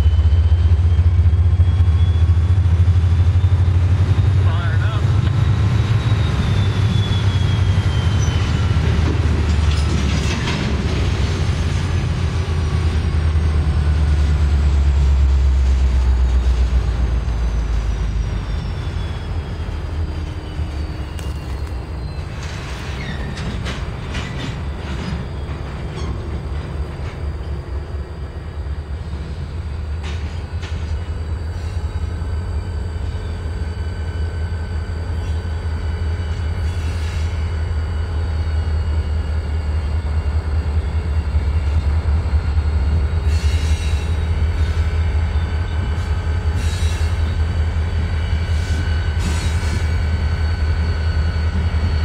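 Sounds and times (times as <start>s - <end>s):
diesel locomotive rolling past: 0.0s - 52.0s.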